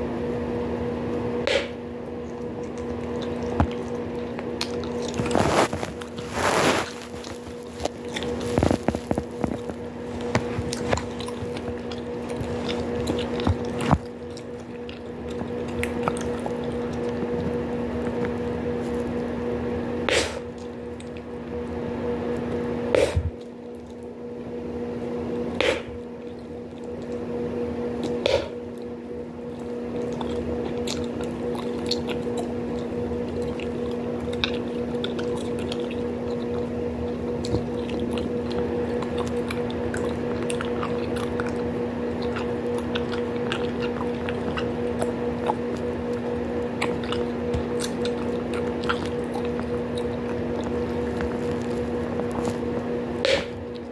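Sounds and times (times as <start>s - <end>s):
steady low hum: 0.0s - 53.9s
gum chewing wet smacking: 2.0s - 6.3s, 7.1s - 19.4s, 20.1s - 24.5s, 25.5s - 53.9s.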